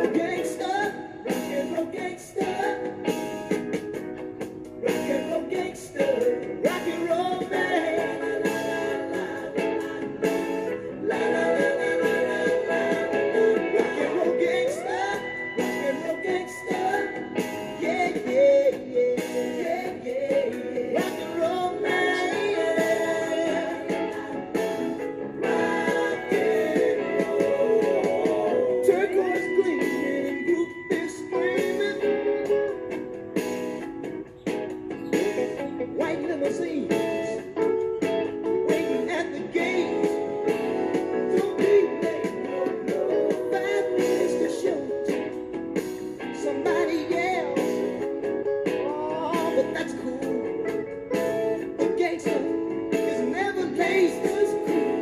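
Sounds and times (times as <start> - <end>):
person singing: 0.0 - 3.2, 4.8 - 33.2, 35.0 - 55.0
drums: 0.0 - 55.0
guitar: 0.0 - 55.0.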